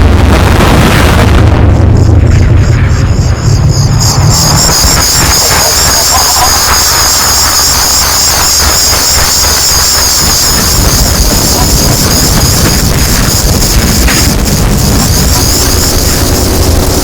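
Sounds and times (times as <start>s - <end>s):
heavily distorted song: 0.0s - 17.0s.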